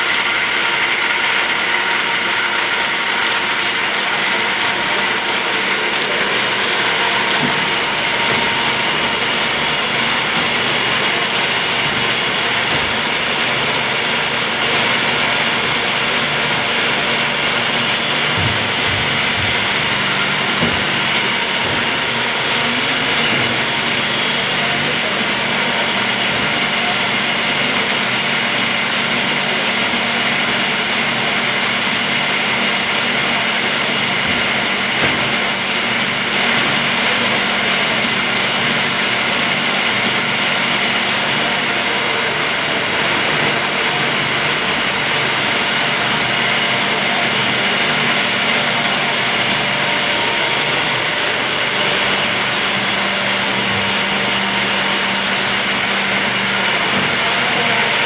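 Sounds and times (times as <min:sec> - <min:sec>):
paper folding machine whirring: 0:00.0 - 0:58.0.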